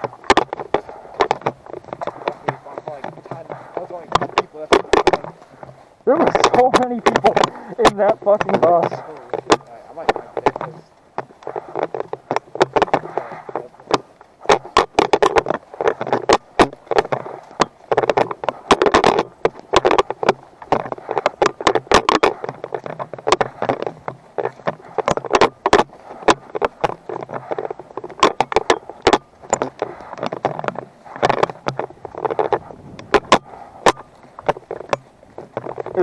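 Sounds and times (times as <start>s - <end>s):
camera rattling in mount: 0.0s - 36.0s
rustling noise: 0.0s - 36.0s.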